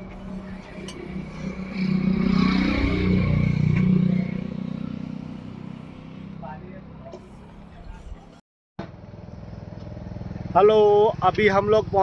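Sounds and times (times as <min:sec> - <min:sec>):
vehicle driving past: 0:00.0 - 0:10.6.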